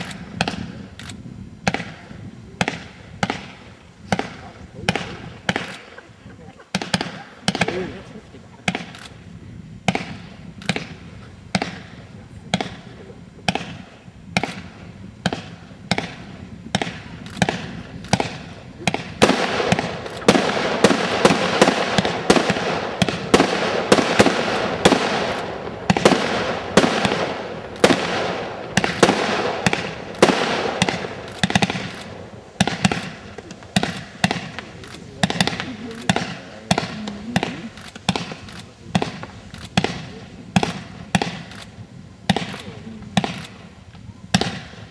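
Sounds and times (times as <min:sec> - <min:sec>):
fireworks bangs: 0:00.0 - 0:44.9
fireworks crackle and hiss: 0:00.0 - 0:44.9.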